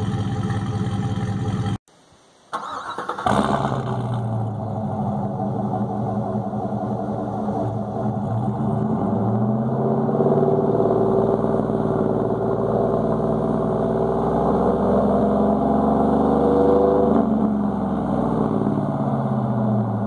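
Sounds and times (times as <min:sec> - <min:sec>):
truck engine revving: 0:00.0 - 0:01.8, 0:03.2 - 0:20.0.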